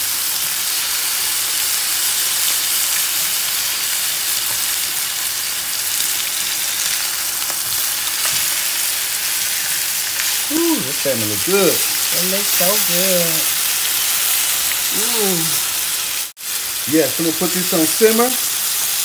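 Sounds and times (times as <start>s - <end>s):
seafood sizzling in a skillet: 0.0s - 19.0s.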